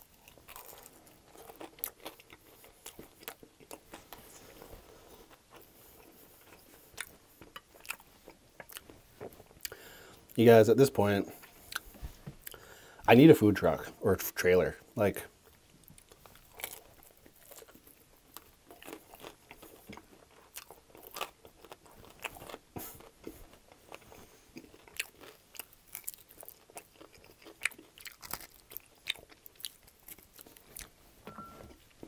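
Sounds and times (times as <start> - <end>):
crunchy chewing: 0.0 - 10.4, 15.4 - 32.0.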